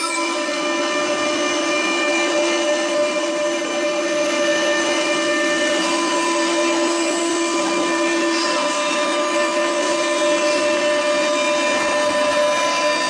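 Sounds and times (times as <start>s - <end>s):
router spindle cutting wood: 0.0s - 13.0s.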